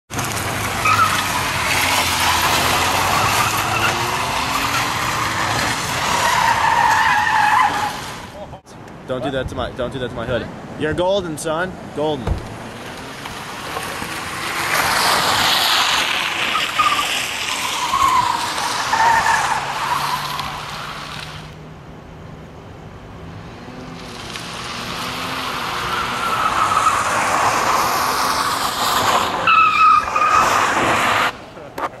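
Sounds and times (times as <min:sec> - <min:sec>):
tyres squealing and skidding: 0:00.1 - 0:08.5, 0:12.5 - 0:21.6, 0:23.6 - 0:32.0.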